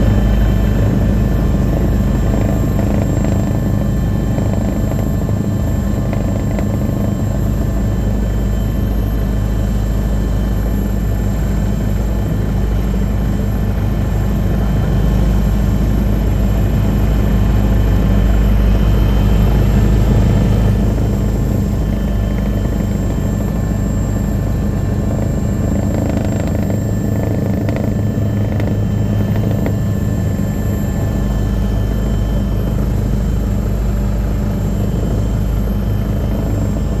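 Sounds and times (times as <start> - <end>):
helicopter engine hum: 0.0 - 37.0
helicopter rotor beat: 0.0 - 37.0.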